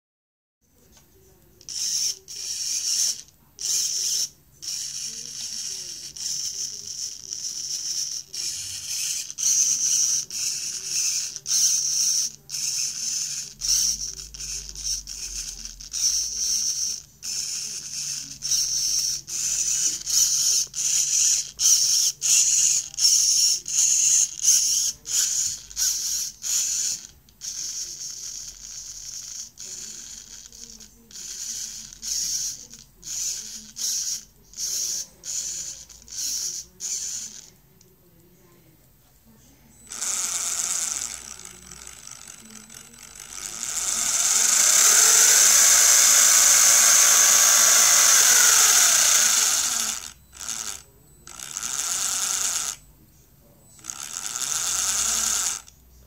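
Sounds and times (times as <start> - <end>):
servo gear whirring: 1.6 - 37.6, 39.8 - 52.8, 53.8 - 55.7.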